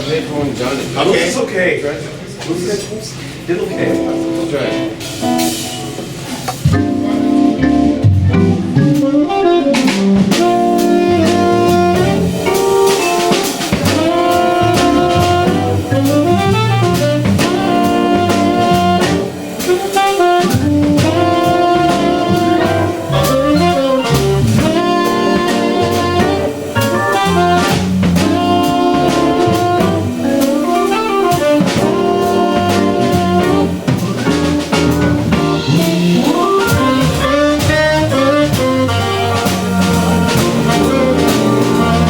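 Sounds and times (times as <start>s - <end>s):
drum kit: 2.3s - 42.0s
organ: 3.7s - 42.0s
tenor saxophone lead: 3.7s - 42.0s.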